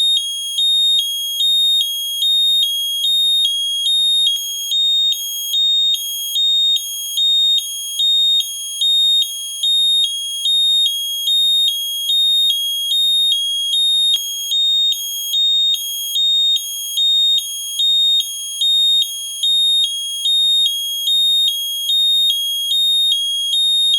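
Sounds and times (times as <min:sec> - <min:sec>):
gas detector alarm two-tone: 0:00.0 - 0:23.9.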